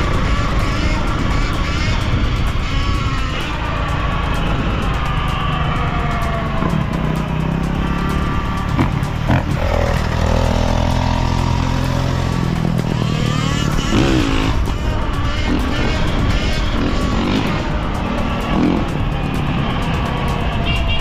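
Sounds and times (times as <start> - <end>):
background music with steady beat: 0.0 - 21.0
motorcycle engine revving: 0.0 - 21.0.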